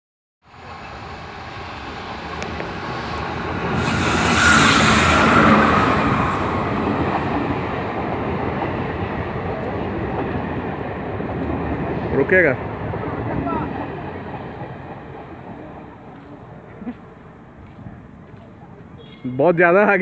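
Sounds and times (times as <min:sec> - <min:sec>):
electric locomotive passing: 0:00.4 - 0:19.0
coach wheels rumbling on rail: 0:00.4 - 0:19.2.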